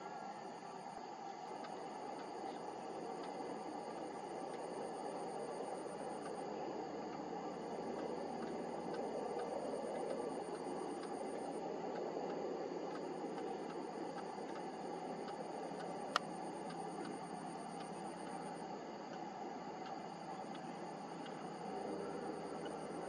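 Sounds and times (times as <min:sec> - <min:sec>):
high insect trill: 0:00.0 - 0:23.0
low hiss: 0:00.0 - 0:23.0.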